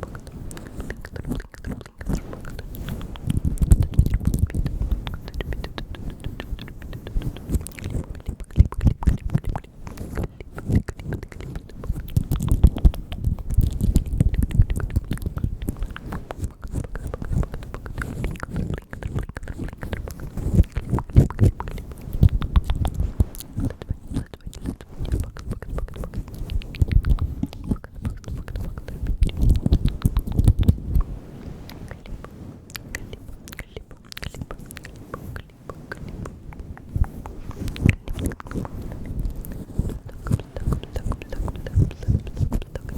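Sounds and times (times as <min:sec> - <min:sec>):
wet mouth clicks and smacks: 0:00.0 - 0:42.9.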